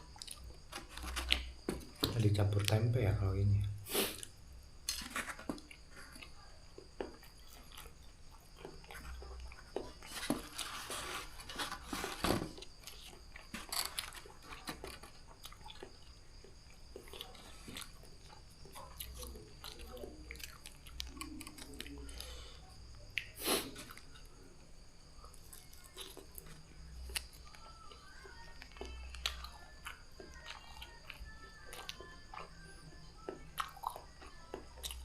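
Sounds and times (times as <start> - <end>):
person chewing food: 0.0 - 2.8, 3.8 - 24.4, 25.2 - 35.0.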